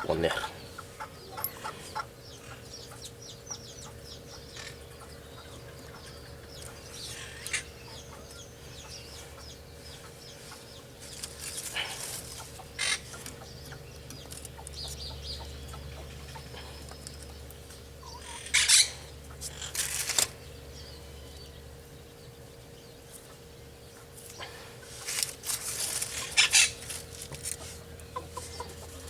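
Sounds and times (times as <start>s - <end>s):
chickens clucking: 0.0s - 19.6s, 21.8s - 29.0s
faint hum: 0.0s - 29.0s
small birds chirping: 0.0s - 29.0s.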